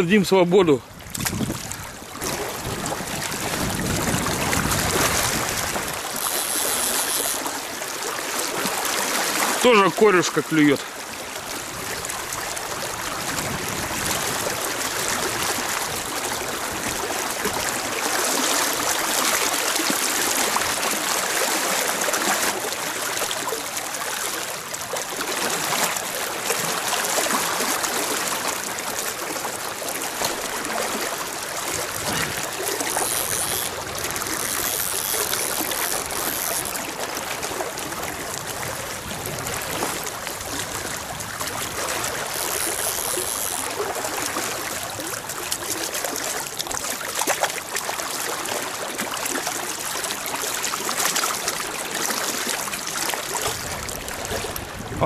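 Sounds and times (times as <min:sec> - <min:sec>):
river water rushing and trickling: 0:00.0 - 0:55.0.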